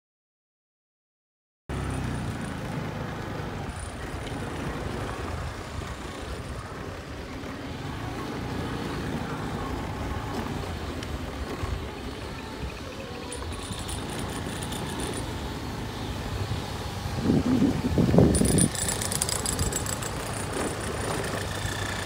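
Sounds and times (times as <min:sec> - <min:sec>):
outdoor vehicle rumble: 0:01.7 - 0:22.0.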